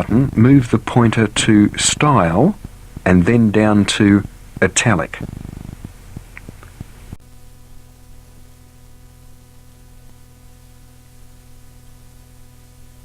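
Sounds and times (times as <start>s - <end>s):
cassette tape hiss: 0.0s - 13.0s
low electrical hum: 0.0s - 13.0s.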